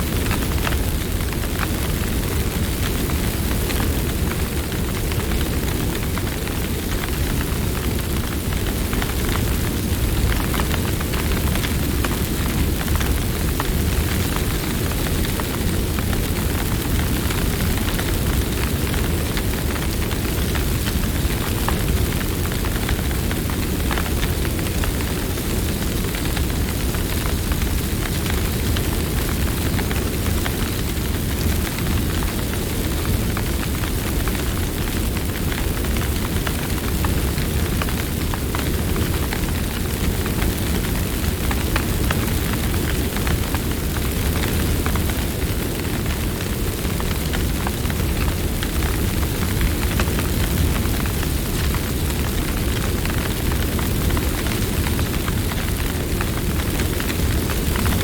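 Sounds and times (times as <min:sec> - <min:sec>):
burning wood crackling and popping: 0:00.0 - 0:58.0
low rumble of flames: 0:00.0 - 0:58.0.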